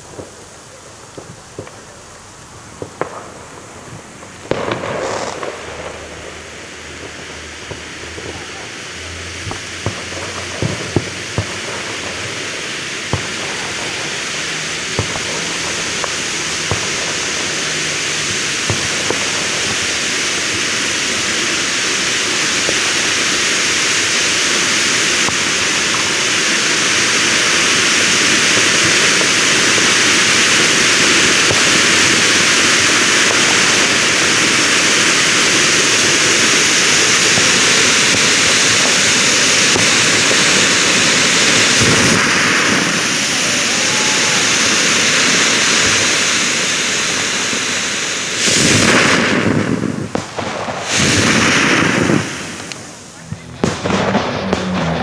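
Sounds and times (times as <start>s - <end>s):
fountain fireworks hissing: 0.0s - 55.0s.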